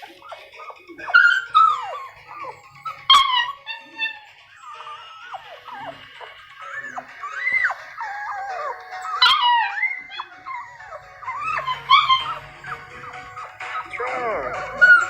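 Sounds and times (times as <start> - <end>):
puppy whimpering and whining: 0.0 - 15.0
puppy yelp: 0.0 - 15.0.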